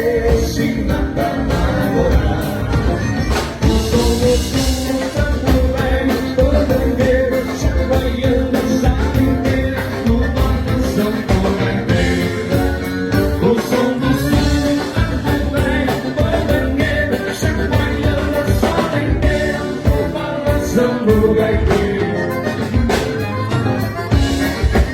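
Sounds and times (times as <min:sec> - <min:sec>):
live dance band music: 0:00.0 - 0:24.9.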